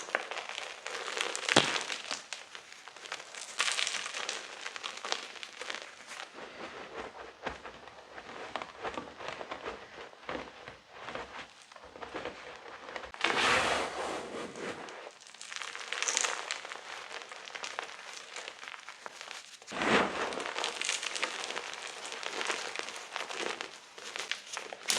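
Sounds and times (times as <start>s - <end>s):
chalk crunching: 0.0s - 24.9s.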